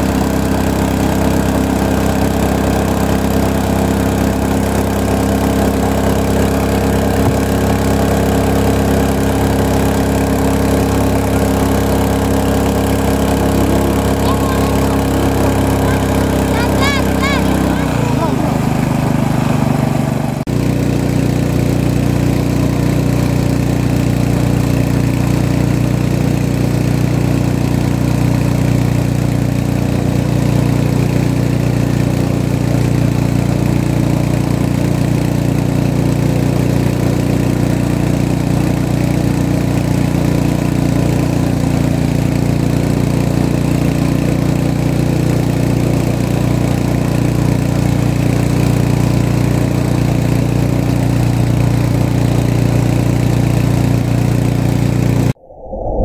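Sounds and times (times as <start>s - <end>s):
outboard motor droning: 0.0s - 55.4s.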